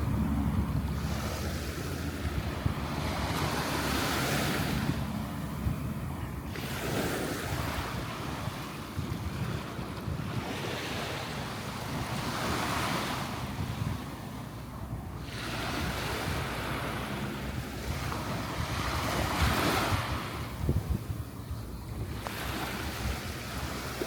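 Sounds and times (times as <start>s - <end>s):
surf washing up beach: 0.0s - 21.4s, 22.0s - 24.0s
wind rumbling on microphone: 0.0s - 24.0s.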